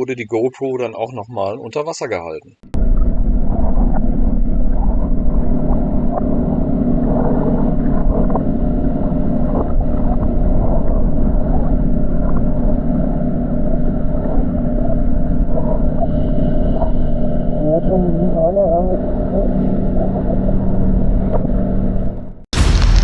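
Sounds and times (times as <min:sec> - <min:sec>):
muffled underwater boat rumble: 0:02.6 - 0:23.0.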